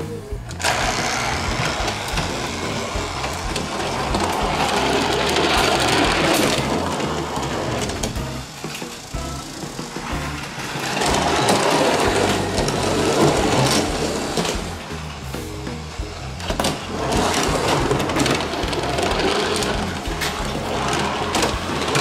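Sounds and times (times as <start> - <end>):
plastic toys scraping and rolling: 0.4 - 22.0.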